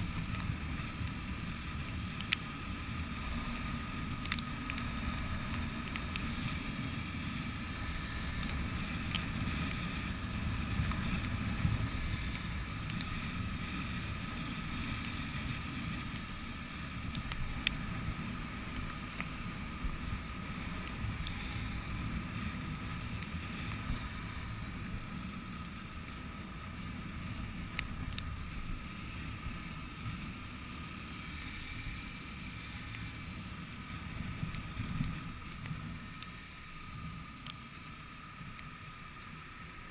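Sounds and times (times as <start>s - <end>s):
tyres on wet road: 0.0s - 39.9s.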